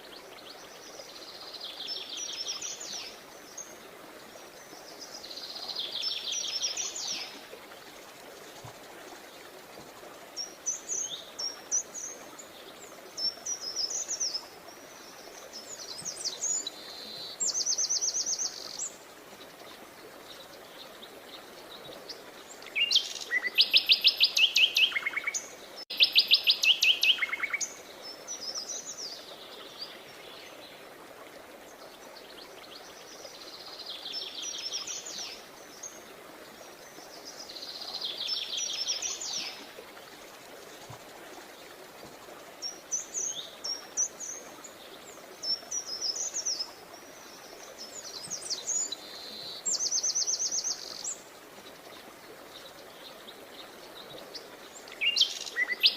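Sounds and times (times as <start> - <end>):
faint background hiss: 0.0 - 55.9
songbirds trilling and chirping: 0.0 - 55.9.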